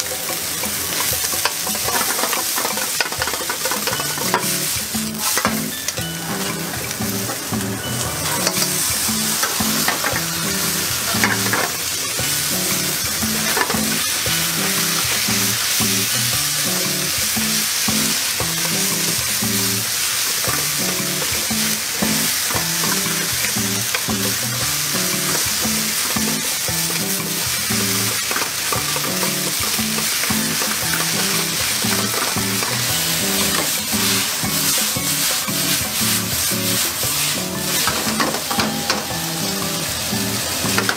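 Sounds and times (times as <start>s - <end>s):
music with low melody: 0.0s - 40.9s
rice sizzling in a wok: 0.0s - 40.9s.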